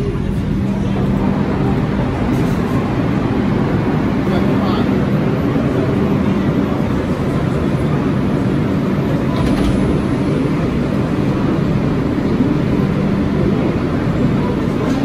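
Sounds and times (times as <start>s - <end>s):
station rumble: 0.0s - 15.0s
train ventilation hum: 0.0s - 15.0s.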